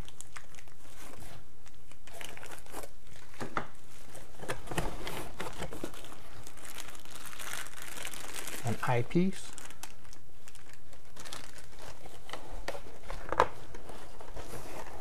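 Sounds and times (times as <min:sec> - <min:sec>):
plastic bags crinkling: 0:00.0 - 0:03.4, 0:05.1 - 0:15.0.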